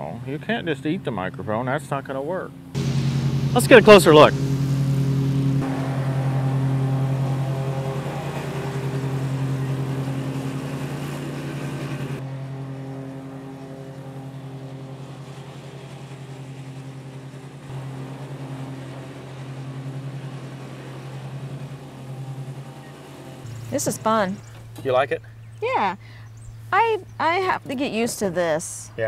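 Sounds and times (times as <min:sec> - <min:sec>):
lawn mower engine running: 0:02.5 - 0:29.0.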